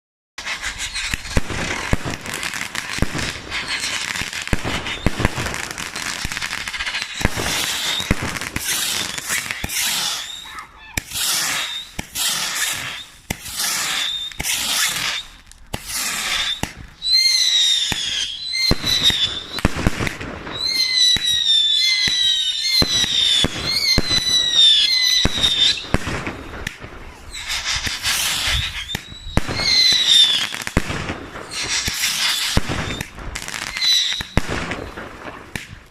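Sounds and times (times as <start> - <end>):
fireworks bangs and crackles: 0.4 - 35.9
whistling fireworks: 0.4 - 35.9.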